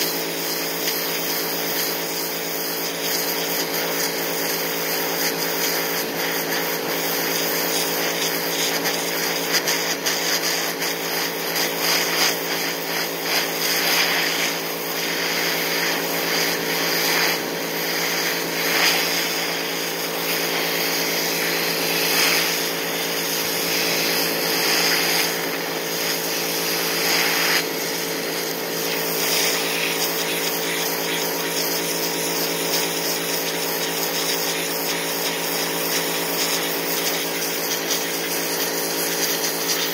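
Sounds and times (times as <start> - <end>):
pressure washer motor humming: 0.0 - 39.9
water jet hissing: 0.0 - 39.9.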